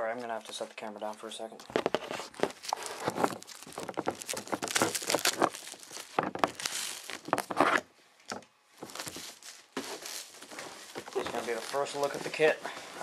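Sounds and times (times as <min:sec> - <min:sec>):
cardboard rustling against microphone: 0:00.1 - 0:13.0.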